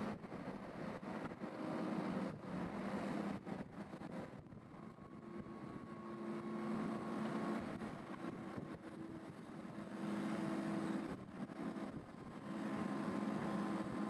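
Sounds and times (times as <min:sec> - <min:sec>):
crane engine humming: 0:00.0 - 0:14.0.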